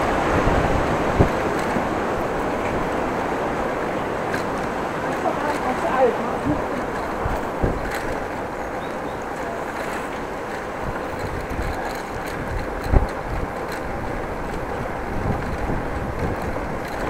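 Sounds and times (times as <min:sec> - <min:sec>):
bicycle road noise: 0:00.0 - 0:17.0
wind rumble on microphone: 0:00.0 - 0:17.0.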